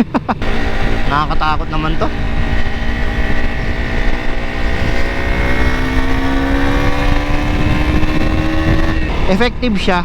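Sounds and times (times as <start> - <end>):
motorcycle engine pulling in gear: 0.4 - 10.0.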